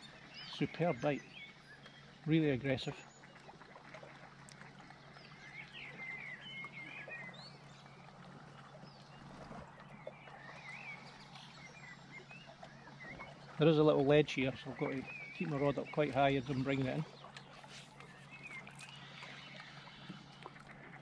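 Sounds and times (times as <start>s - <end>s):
small birds chirping: 0.0s - 3.5s, 4.8s - 20.9s.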